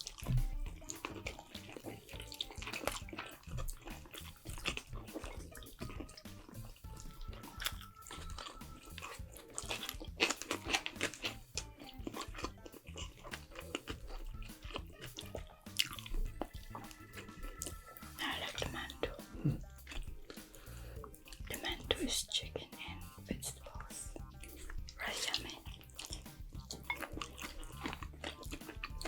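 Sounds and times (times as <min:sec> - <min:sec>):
soft background music: 0:00.0 - 0:29.0
wet chewing and crunching: 0:00.0 - 0:29.0.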